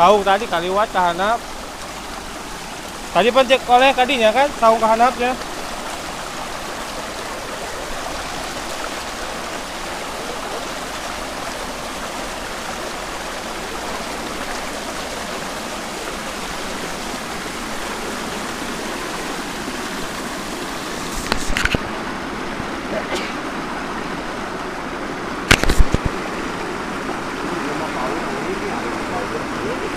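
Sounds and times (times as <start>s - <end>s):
mountain stream rushing: 0.0s - 29.9s.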